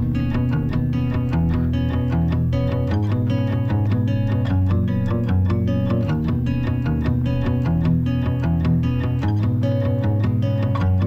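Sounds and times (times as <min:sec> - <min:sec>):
plucked notes over bass line: 0:00.0 - 0:11.0.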